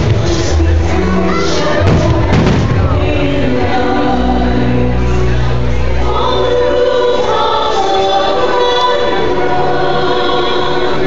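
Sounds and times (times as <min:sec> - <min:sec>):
choir singing over accompaniment: 0:00.0 - 0:11.0.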